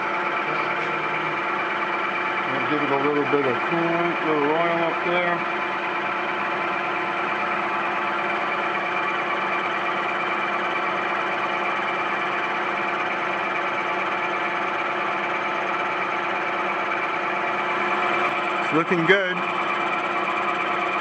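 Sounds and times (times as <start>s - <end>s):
milling machine humming and whining: 0.0s - 21.0s.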